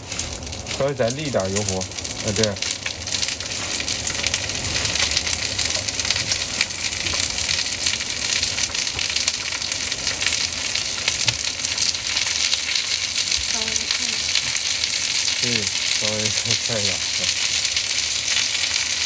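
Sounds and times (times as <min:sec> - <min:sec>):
cooking oil sizzling: 0:00.0 - 0:19.0
small crackles and pops: 0:00.0 - 0:19.0.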